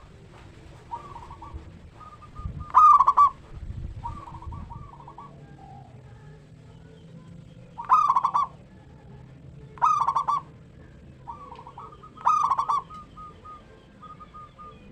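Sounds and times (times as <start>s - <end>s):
dove cooing: 0.0s - 6.4s, 7.6s - 9.0s, 9.6s - 14.9s.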